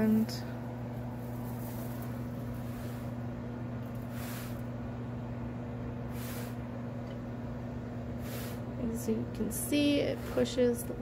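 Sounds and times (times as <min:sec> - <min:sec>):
litter box motor hum: 0:00.0 - 0:11.0.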